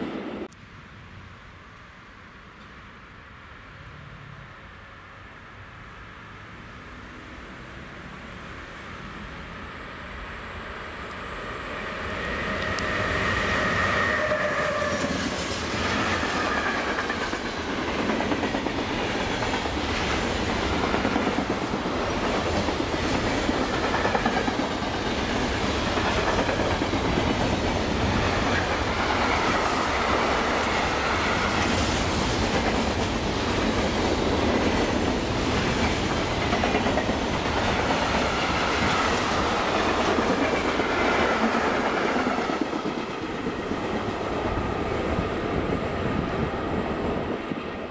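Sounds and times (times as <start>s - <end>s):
electric locomotive whine: 0.0s - 47.9s
freight train rumble: 6.0s - 47.9s.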